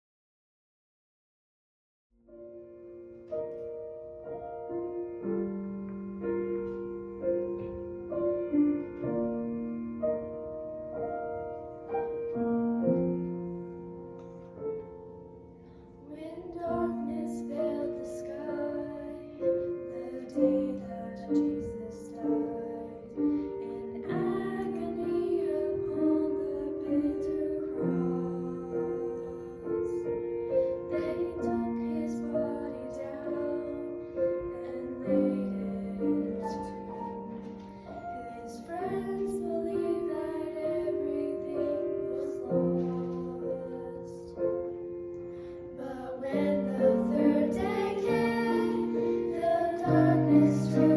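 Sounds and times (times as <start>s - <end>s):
piano playing slow chords: 2.2s - 50.9s.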